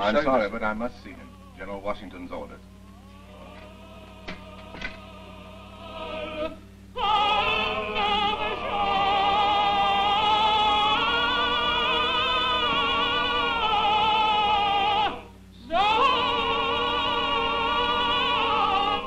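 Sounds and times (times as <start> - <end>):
cantor chanting a prayer: 0.0 - 19.0.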